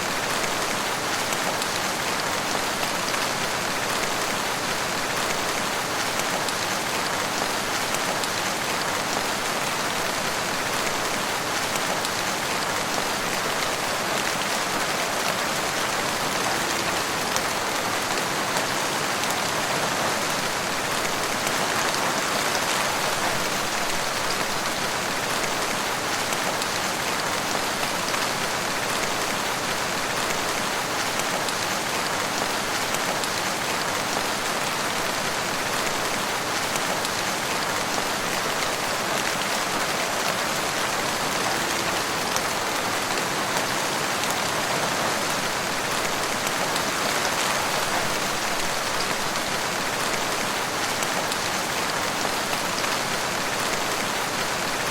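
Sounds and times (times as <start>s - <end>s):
rain falling on forest: 0.0s - 54.9s.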